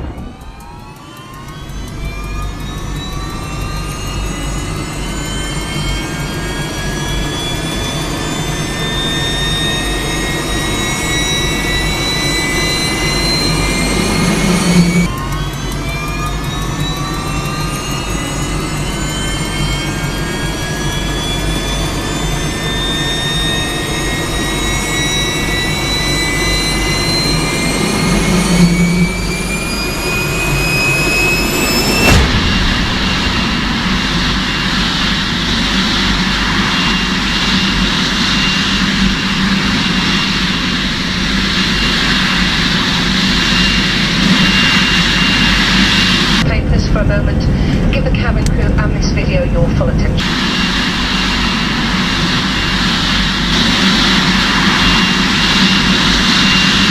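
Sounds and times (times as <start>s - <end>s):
loud rushing roar: 0.0s - 56.9s
turbine engine whine: 0.0s - 56.9s.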